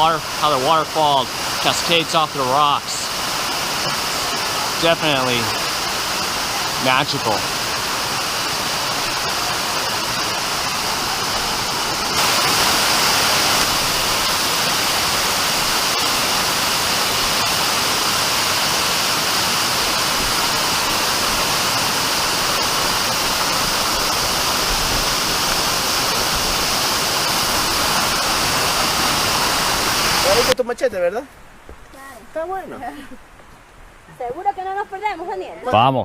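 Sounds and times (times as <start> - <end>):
waterfall rushing: 0.0 - 31.2.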